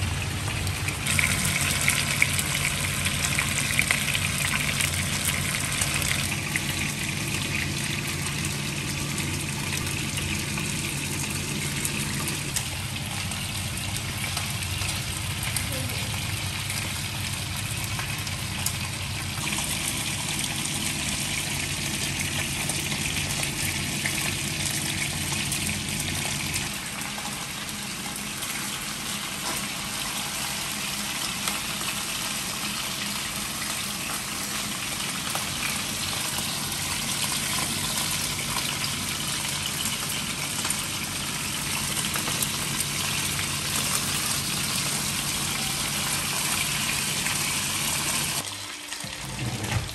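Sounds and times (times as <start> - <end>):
chicken sizzling in oil: 0.0 - 49.9.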